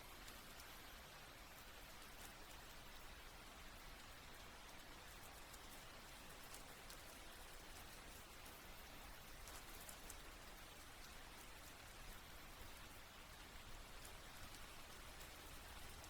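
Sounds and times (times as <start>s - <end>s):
light raindrop ticks: 0.0s - 16.0s
steady rain: 0.0s - 16.0s.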